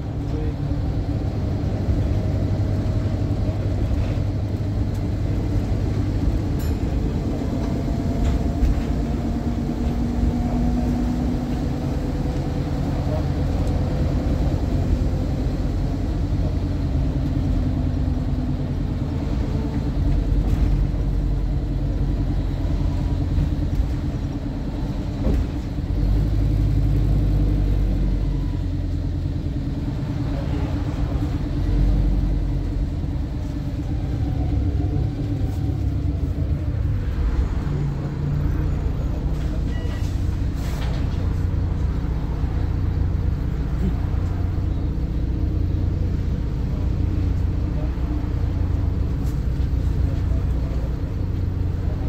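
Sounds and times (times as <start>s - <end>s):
bus diesel engine rumbling: 0.0s - 52.0s.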